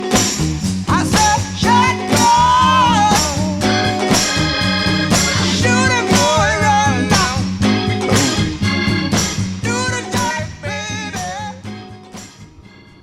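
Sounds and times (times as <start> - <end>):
upbeat ska song with singing: 0.0 - 13.0.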